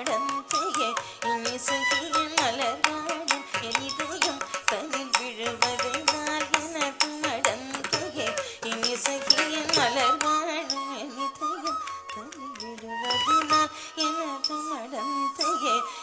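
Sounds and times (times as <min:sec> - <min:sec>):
person singing melody: 0:00.0 - 0:16.0
rhythmic percussion strikes: 0:00.4 - 0:10.9, 0:11.6 - 0:14.7.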